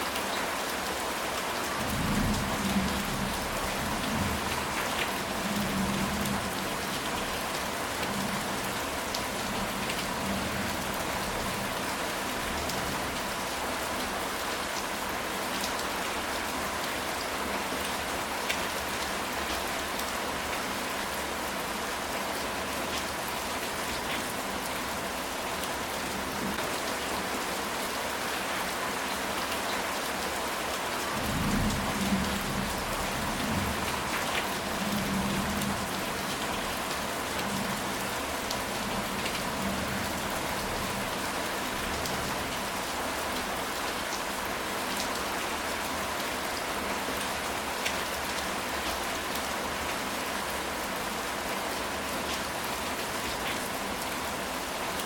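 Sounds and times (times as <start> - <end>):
heavy rain on a tile roof: 0.0 - 55.0.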